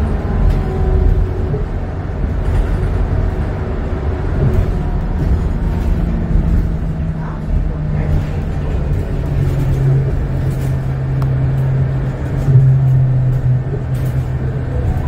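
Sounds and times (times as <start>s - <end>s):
bus interior low rumble: 0.0s - 15.0s.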